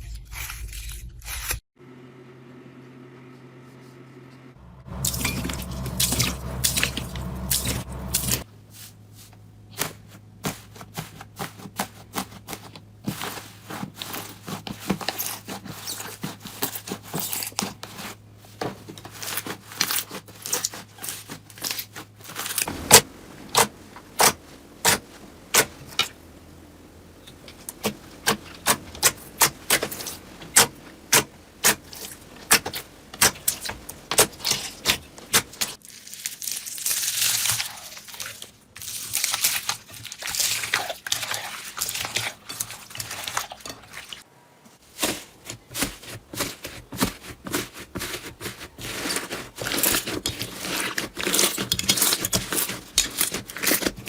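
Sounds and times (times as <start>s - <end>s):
crinkling rustle: 4.7s - 54.0s.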